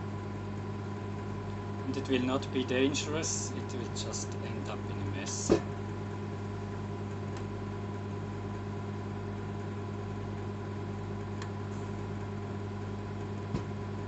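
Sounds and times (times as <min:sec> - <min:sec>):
microwave oven hum: 0:00.0 - 0:14.0.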